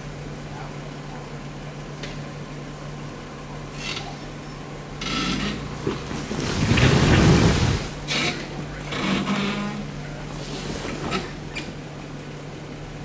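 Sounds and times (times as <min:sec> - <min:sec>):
engine low hum: 0:00.0 - 0:13.0.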